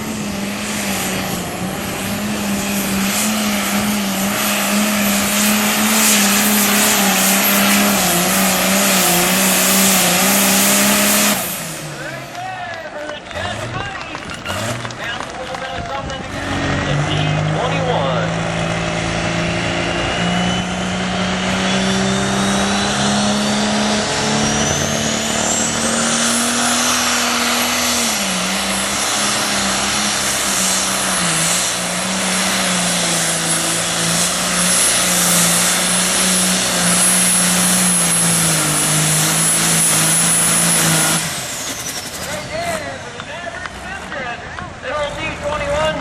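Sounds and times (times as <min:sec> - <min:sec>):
high-pitched turbo whine: 0:00.0 - 0:12.4, 0:16.2 - 0:43.9
diesel tractor engine at high revs: 0:00.0 - 0:46.0.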